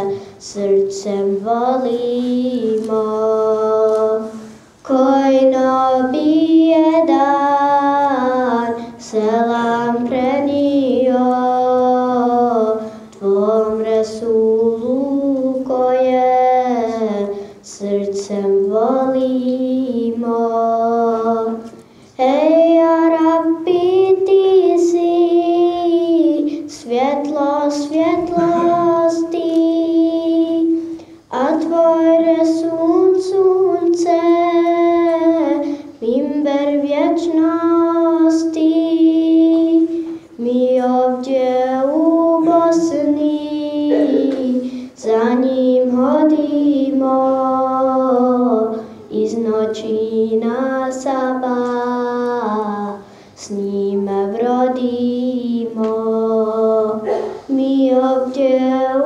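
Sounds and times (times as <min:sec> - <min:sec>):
young woman singing unaccompanied: 0:00.0 - 0:59.0.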